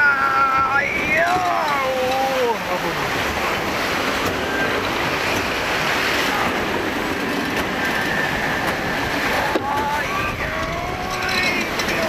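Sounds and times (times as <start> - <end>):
ride running noise: 0.0 - 12.0
rush of wind: 0.0 - 12.0.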